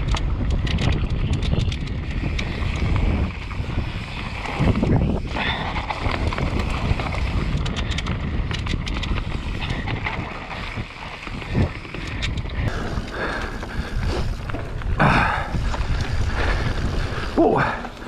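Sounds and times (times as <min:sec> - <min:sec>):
bike rattling and knocking: 0:00.0 - 0:18.0
tyres rumbling on dirt: 0:00.0 - 0:18.0
wind buffeting microphone: 0:00.0 - 0:18.0.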